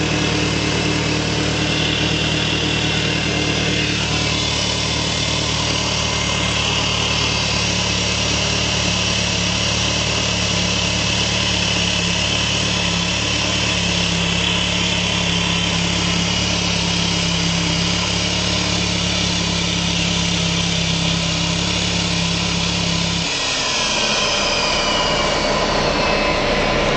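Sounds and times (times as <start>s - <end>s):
low droning hum: 0.0s - 9.6s, 12.3s - 26.9s
car engine running: 0.0s - 26.9s.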